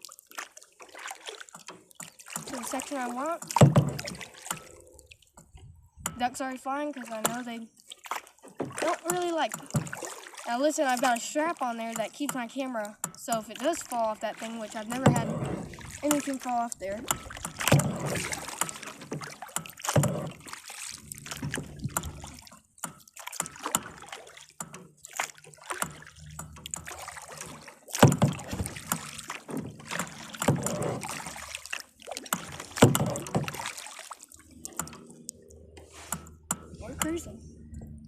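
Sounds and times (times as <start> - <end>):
kayak paddle splashing: 0.0 - 37.7.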